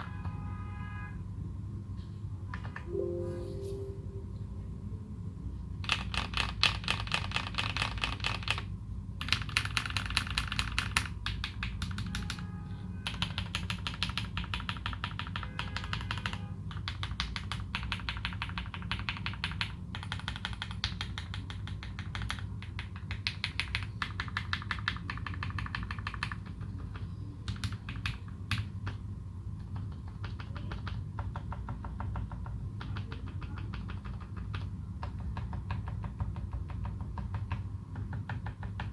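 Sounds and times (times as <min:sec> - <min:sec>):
mechanical keyboard typing: 0:05.8 - 0:12.4, 0:13.0 - 0:38.9.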